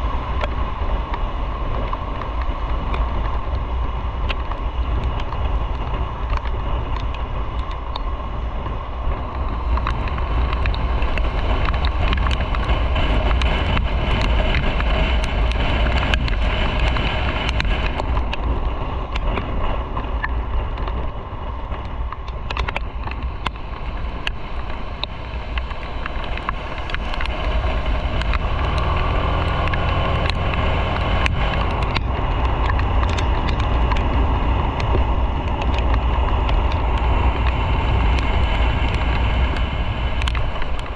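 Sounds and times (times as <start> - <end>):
motorcycle engine running: 0.0 - 40.9
wind rush over microphone: 0.0 - 40.9.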